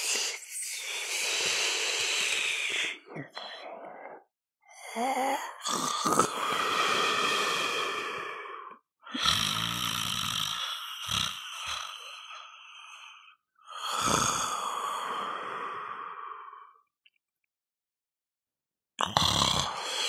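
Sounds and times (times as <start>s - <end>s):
person snoring: 0.0s - 16.7s, 19.0s - 20.0s.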